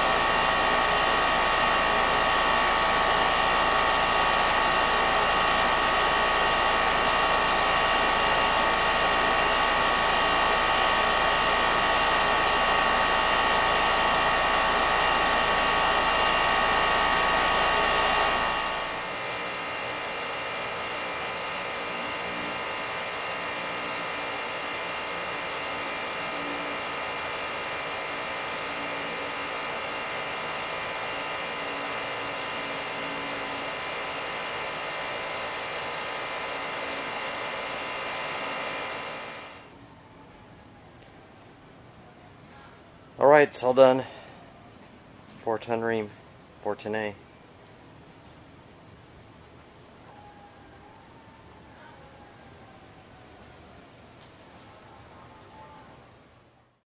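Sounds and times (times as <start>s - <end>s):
air conditioner fan and compressor: 0.0s - 56.8s.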